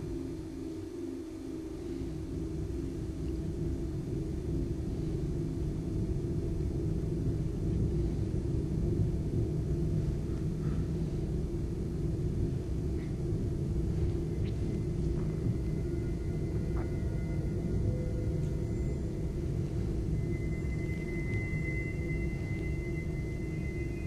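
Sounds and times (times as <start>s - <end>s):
low rumbling drone: 0.0s - 24.0s.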